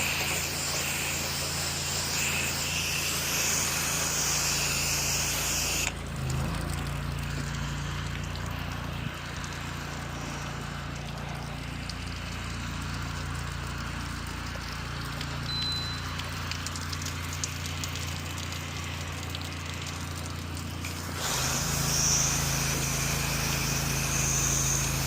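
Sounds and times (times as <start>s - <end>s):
engine humming: 0.0s - 25.0s
pressure washer water hissing: 0.0s - 25.0s.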